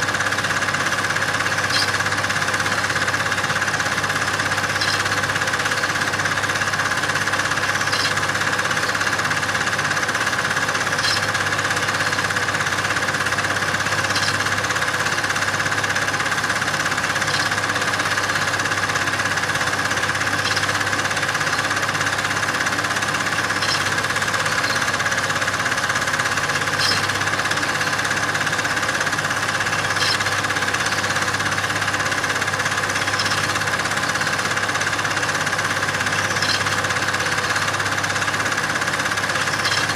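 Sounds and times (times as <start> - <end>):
steady mechanical running noise: 0.0 - 39.9.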